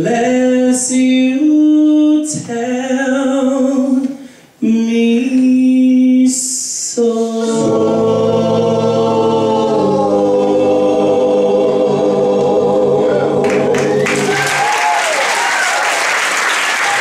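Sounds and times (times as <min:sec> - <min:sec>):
male a cappella group singing: 0:00.0 - 0:14.4.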